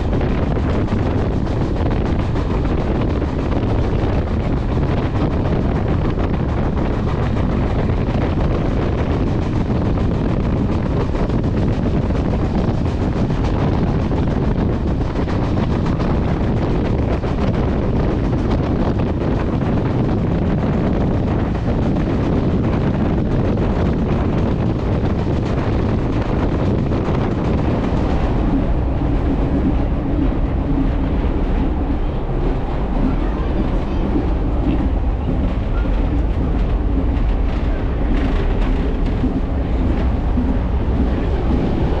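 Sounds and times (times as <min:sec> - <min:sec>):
diesel train rumbling: 0:00.0 - 0:42.0
wind buffeting the microphone: 0:00.0 - 0:42.0.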